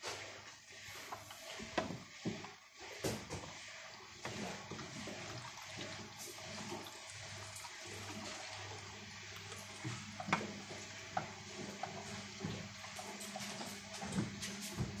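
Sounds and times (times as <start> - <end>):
washing machine humming: 0.0 - 15.0
water sloshing in washing machine: 0.0 - 15.0.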